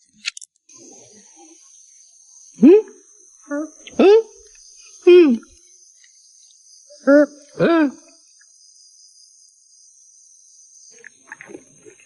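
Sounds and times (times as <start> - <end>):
crickets chirring: 0.7 - 12.0.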